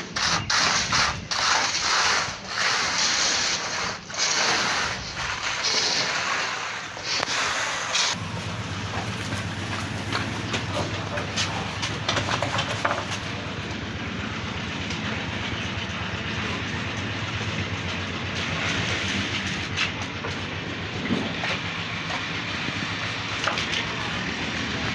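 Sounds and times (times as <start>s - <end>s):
concrete pump running: 0.0s - 24.9s.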